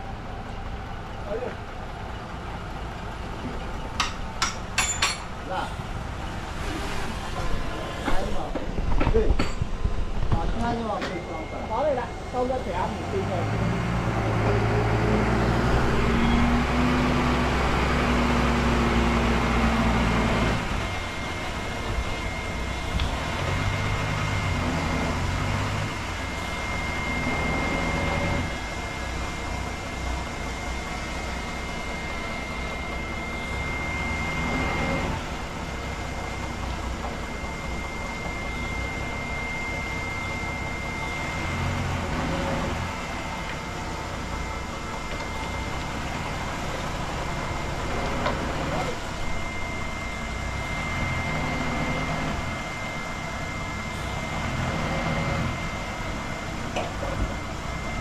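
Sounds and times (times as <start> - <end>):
bulldozer diesel engine under load: 0.0 - 9.0, 9.6 - 58.0
thin steady whine: 0.0 - 58.0.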